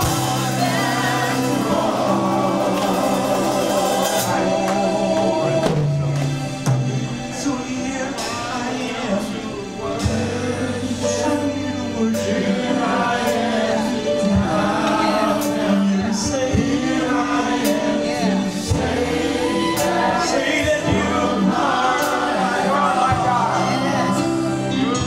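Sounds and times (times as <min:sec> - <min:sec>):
choir singing: 0:00.0 - 0:25.0
instrumental backing: 0:00.0 - 0:25.0
sustained bass notes: 0:00.0 - 0:25.0.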